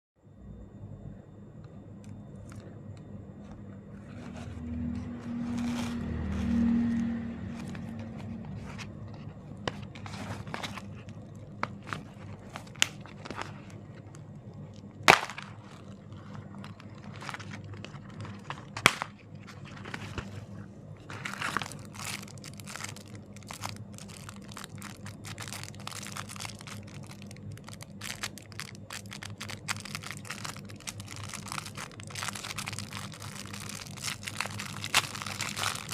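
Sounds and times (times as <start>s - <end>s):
wrapper crinkling: 4.9s - 35.9s.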